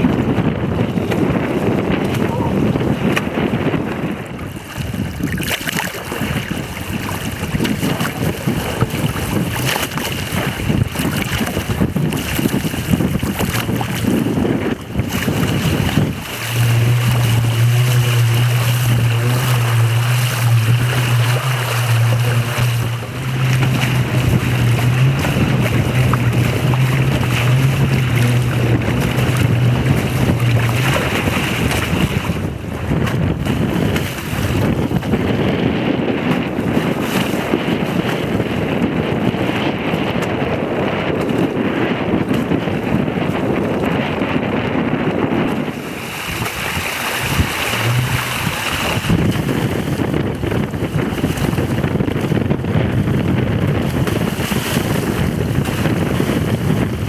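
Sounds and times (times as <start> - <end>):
water rushing past hull: 0.0 - 57.0
wind buffeting microphone: 0.0 - 57.0.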